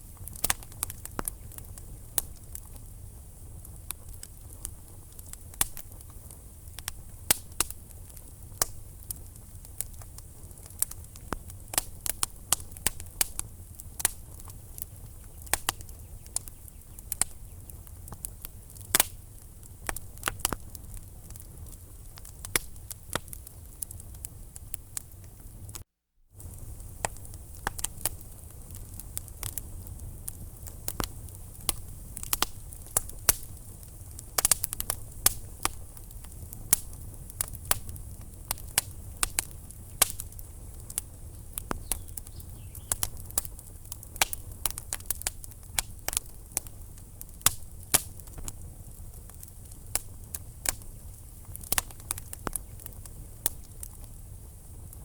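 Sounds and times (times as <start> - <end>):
logs crackling and popping: 0.0 - 25.8, 26.4 - 55.0
low rumble of flames: 0.0 - 25.8, 26.4 - 55.0.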